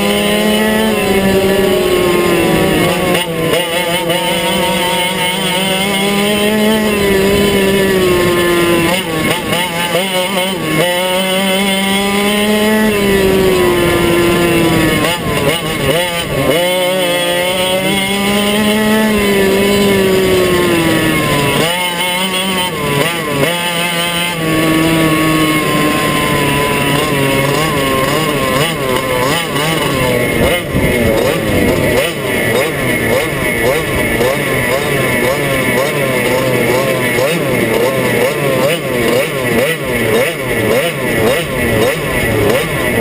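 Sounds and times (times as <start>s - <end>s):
kart engine at high revs: 0.0s - 43.0s.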